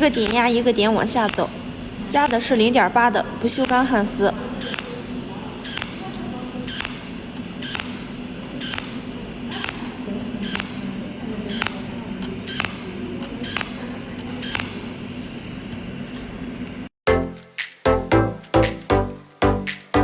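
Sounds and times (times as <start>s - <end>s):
steady low hum: 0.0s - 16.9s
welding arc pulses hissing: 0.0s - 16.9s.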